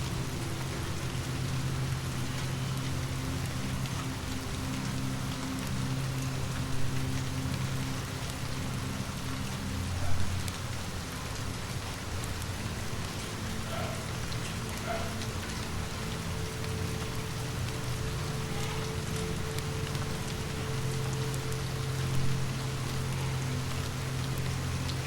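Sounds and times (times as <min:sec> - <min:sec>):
rain falling on surface: 0:00.0 - 0:25.0.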